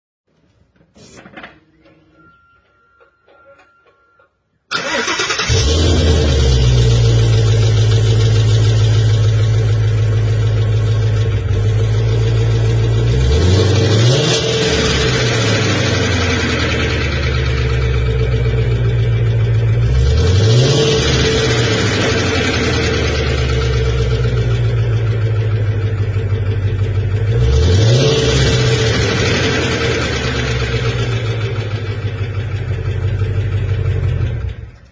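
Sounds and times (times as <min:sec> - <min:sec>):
car engine starting and idling: 0:04.7 - 0:34.9.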